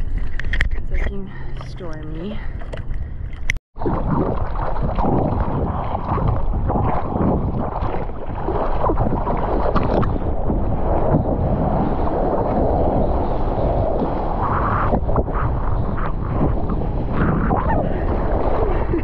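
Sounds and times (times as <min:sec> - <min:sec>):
sea water sloshing and splashing: 0:00.0 - 0:19.0
wind buffeting microphone: 0:00.0 - 0:19.0.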